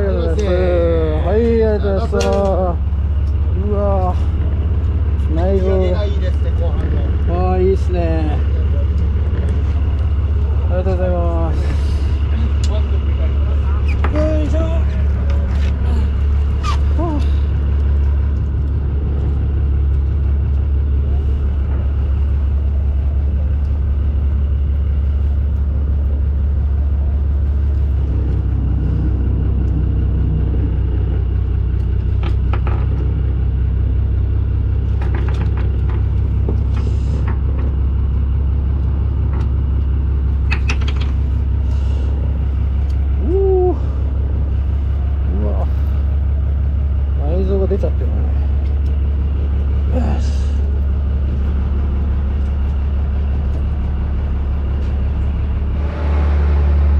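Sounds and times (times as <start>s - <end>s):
boat engine rumbling: 0.0s - 56.9s.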